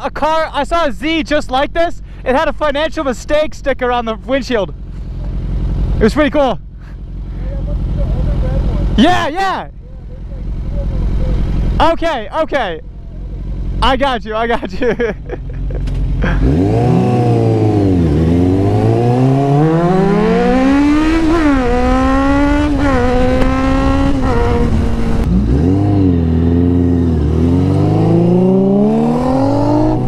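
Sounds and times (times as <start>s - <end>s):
wind and road noise: 0.0s - 30.0s
motorcycle engine accelerating: 4.2s - 30.0s.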